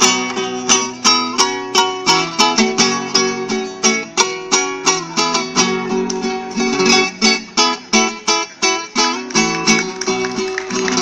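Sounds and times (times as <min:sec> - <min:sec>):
acoustic guitar plucked melody: 0:00.0 - 0:11.0.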